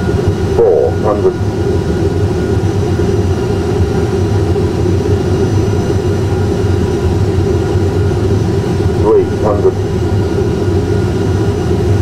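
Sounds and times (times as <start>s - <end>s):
simulated engine and airflow drone: 0.0s - 12.0s.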